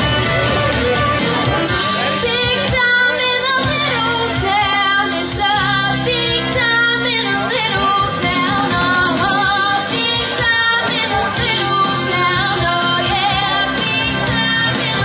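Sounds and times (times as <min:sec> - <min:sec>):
instrumental accompaniment: 0:00.0 - 0:15.0
woman singing into a microphone: 0:02.0 - 0:15.0.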